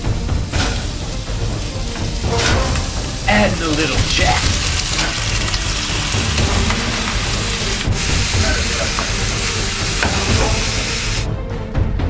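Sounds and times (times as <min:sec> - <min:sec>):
meat sizzling in a saucepan: 0:00.0 - 0:11.3.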